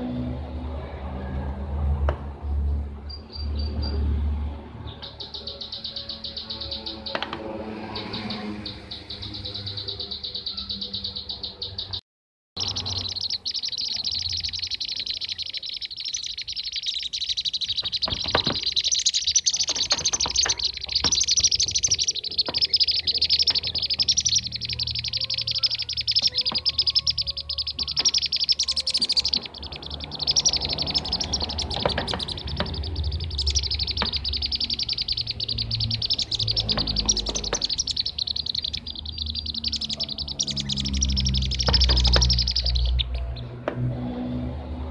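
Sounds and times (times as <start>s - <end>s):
birds chirping rapidly: 2.4s - 12.0s, 12.6s - 44.9s.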